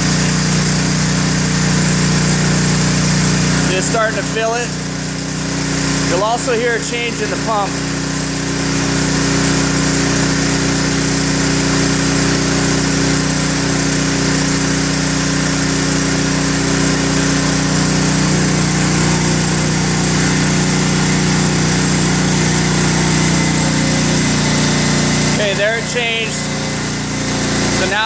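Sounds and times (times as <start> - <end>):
electric pump humming: 0.0 - 28.0.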